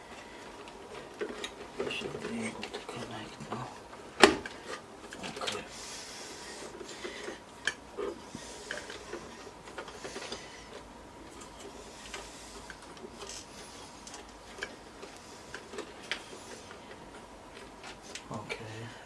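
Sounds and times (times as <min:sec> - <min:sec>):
cables rustling: 0:00.0 - 0:19.0.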